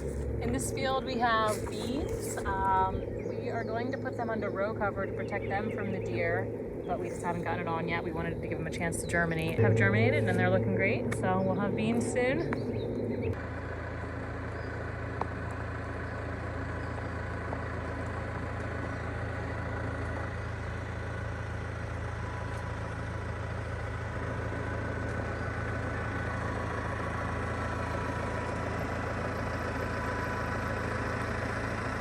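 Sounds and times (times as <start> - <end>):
faint steady whine: 0.0 - 31.8
tractor engine droning: 0.0 - 32.0.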